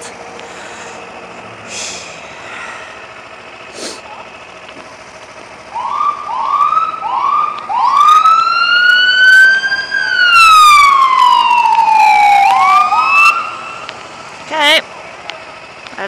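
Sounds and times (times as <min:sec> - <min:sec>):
emergency vehicle siren: 0:00.1 - 0:15.9.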